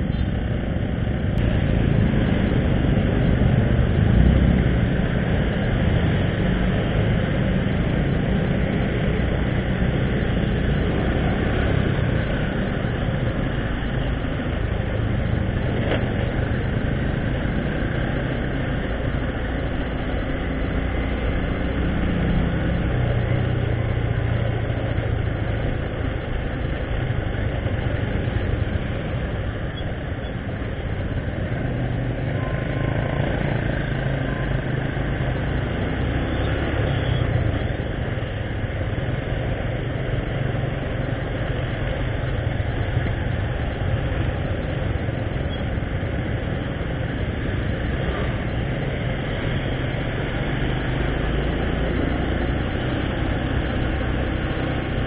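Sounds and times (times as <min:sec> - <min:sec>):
motorcycle engine running: 0:00.0 - 0:55.0
traffic of motorbikes and cars: 0:00.0 - 0:55.0.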